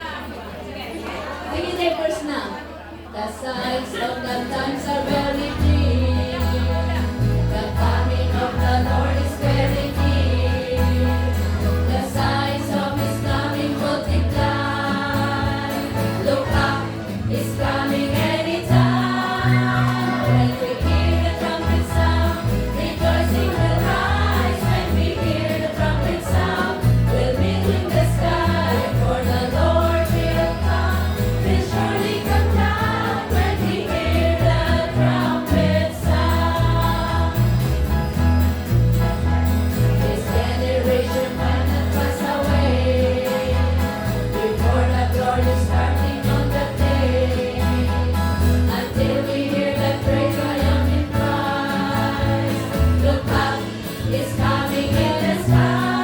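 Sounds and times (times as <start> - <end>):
choir singing gospel: 3.2 - 56.0.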